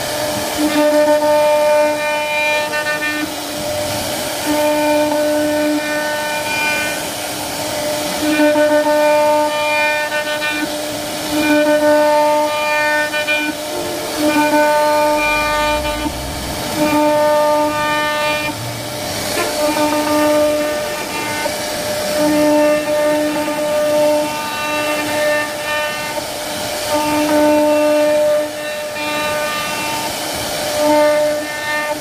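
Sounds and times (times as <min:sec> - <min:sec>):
router spindle whining: 0:00.0 - 0:26.2.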